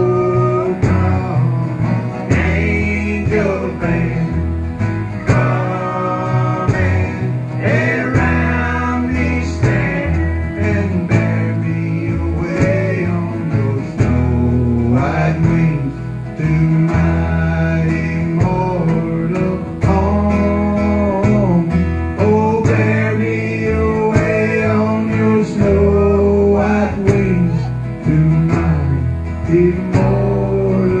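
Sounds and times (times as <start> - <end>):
acoustic guitars strumming: 0.0 - 31.0
sliding lead melody: 0.0 - 31.0
steady bass: 0.0 - 31.0.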